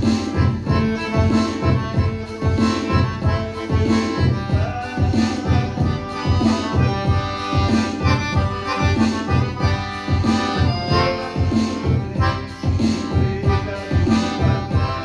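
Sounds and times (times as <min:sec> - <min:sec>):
piano accordion playing lively tune: 0:00.0 - 0:15.0.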